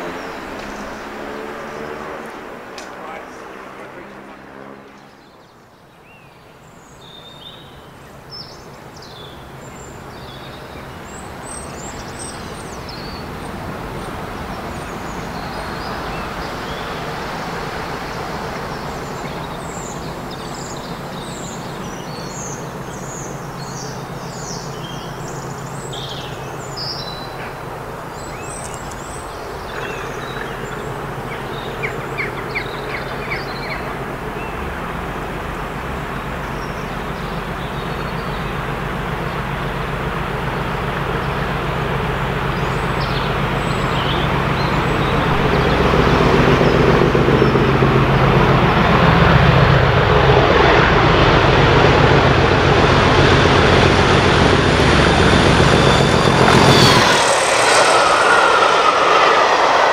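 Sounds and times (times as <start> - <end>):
birds chirping: 0.0 - 49.4, 50.2 - 59.9
diesel locomotive engine drone: 0.0 - 59.9.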